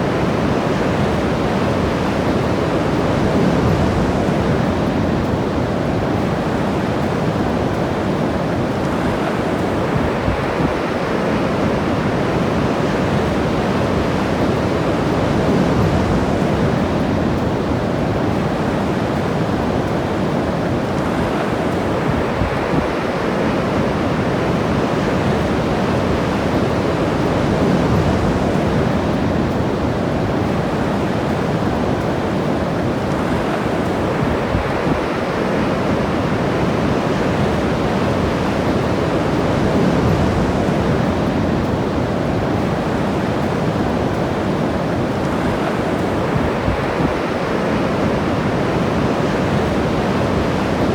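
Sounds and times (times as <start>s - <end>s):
waves breaking on shore: 0.0s - 50.9s
wind on microphone: 0.0s - 50.9s.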